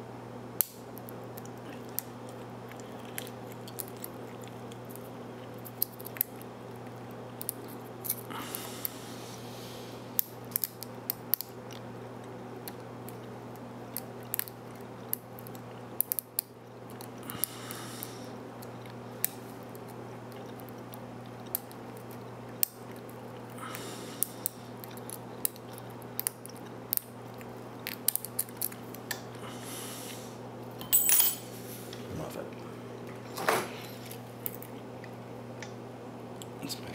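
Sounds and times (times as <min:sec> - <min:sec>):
low steady hum: 0:00.0 - 0:36.9.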